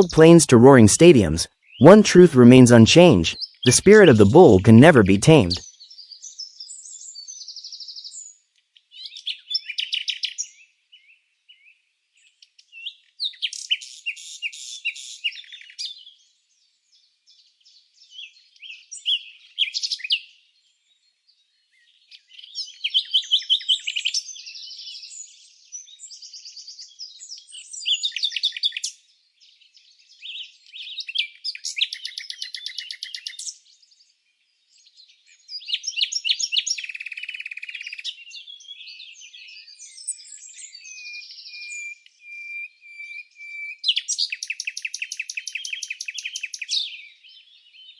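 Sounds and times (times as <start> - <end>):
songbirds singing with trills: 1.2 - 1.8, 2.5 - 47.9.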